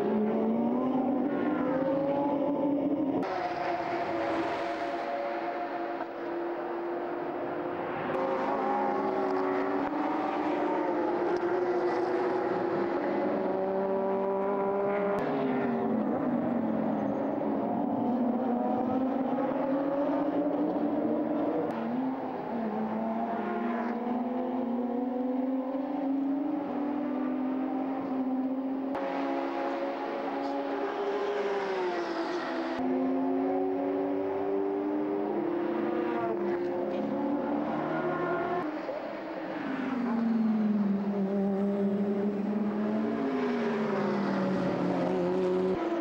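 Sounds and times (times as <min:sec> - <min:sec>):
race car engines accelerating: 0:00.0 - 0:46.0.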